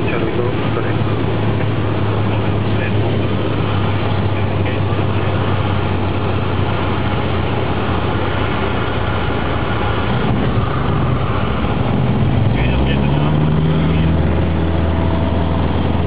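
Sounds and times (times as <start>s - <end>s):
light airplane engine drone: 0.0s - 16.0s
rushing noise: 0.0s - 16.0s.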